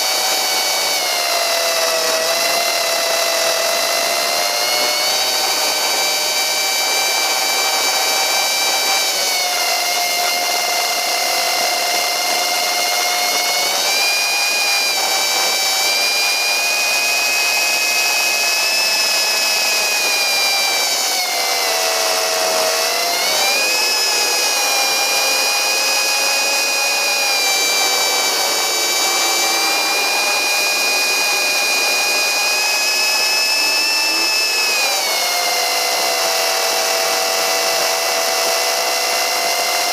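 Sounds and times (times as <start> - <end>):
model plane motor whining: 0.0 - 39.9.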